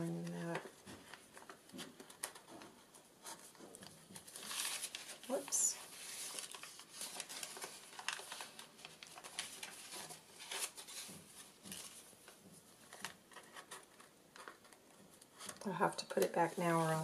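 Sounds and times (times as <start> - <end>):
paper rustling and scraping: 0.1 - 17.0.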